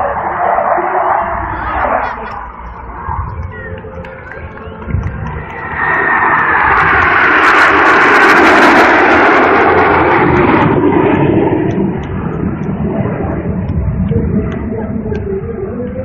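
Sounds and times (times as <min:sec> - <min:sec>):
high whine falling in pitch: 0:00.0 - 0:16.0
jets roaring overhead: 0:00.0 - 0:16.0.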